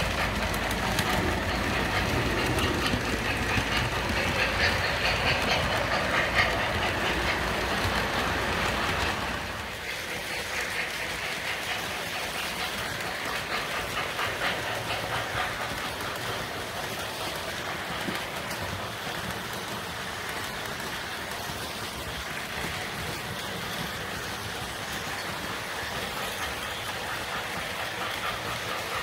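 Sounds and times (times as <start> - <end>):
model train wheels rattling: 0.0 - 29.0.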